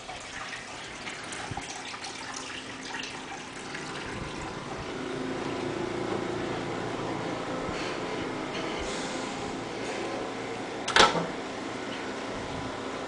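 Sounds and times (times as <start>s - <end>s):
microwave oven running: 0.0s - 13.0s
steady hum: 0.7s - 13.0s.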